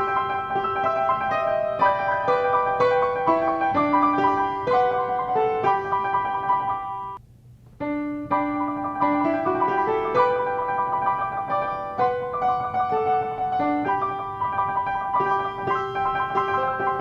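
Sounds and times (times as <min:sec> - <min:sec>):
piano music: 0:00.0 - 0:07.2, 0:07.8 - 0:17.0.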